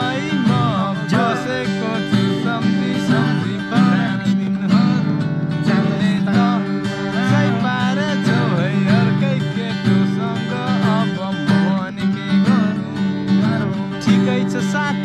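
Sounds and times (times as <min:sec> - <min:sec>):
acoustic guitar strumming: 0:00.0 - 0:15.0
voices singing: 0:00.0 - 0:15.0.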